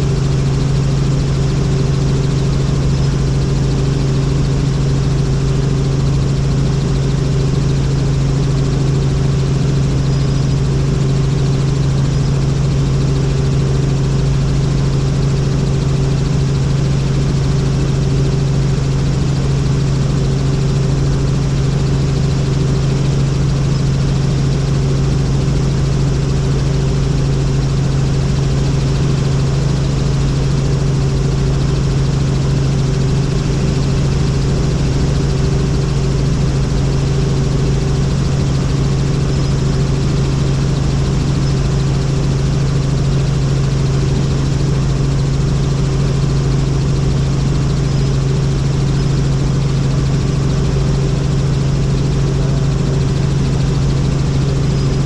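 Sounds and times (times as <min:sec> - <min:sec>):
helicopter rotor drone: 0:00.0 - 0:55.0.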